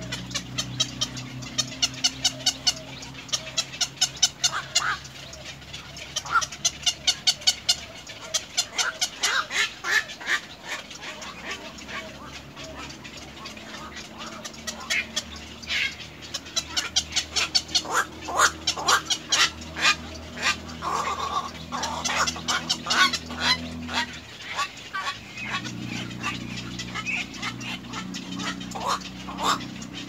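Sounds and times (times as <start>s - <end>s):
egret nestlings chattering calls: 0.0s - 30.0s.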